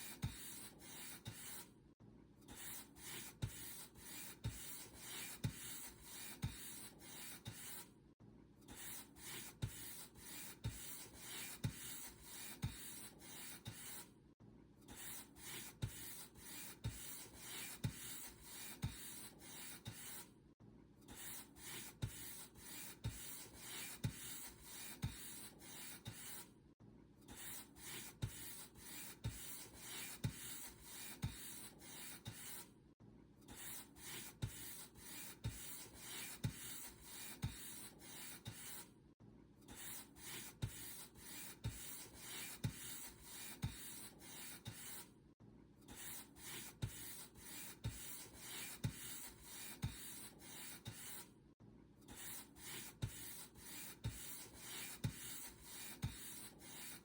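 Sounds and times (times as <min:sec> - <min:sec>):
paint brush stroking a surface: 0:00.0 - 0:01.7, 0:02.6 - 0:07.9, 0:08.8 - 0:14.1, 0:15.0 - 0:20.3, 0:21.2 - 0:26.5, 0:27.4 - 0:32.7, 0:33.5 - 0:38.9, 0:39.8 - 0:45.1, 0:46.0 - 0:51.3, 0:52.2 - 0:57.0.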